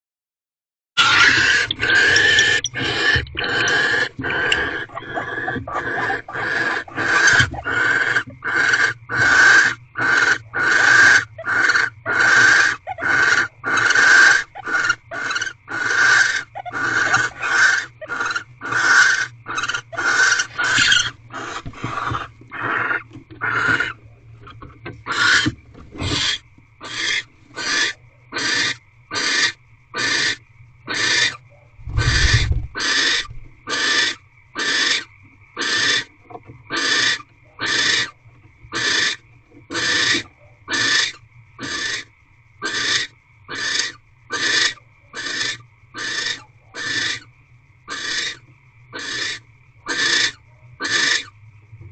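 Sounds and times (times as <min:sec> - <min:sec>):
owl hissing rasps: 0:01.0 - 0:36.1, 0:36.7 - 0:47.3, 0:47.9 - 0:51.4.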